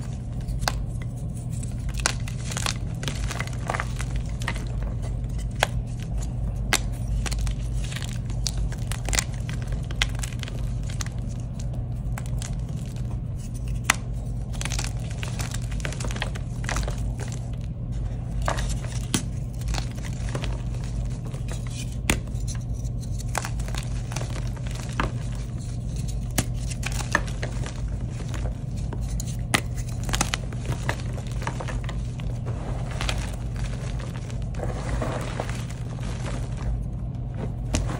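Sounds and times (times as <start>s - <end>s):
chalk pieces cracking and snapping: 0.0s - 37.9s
hands crumbling chalk: 0.0s - 37.9s
steady low hum: 0.0s - 37.9s.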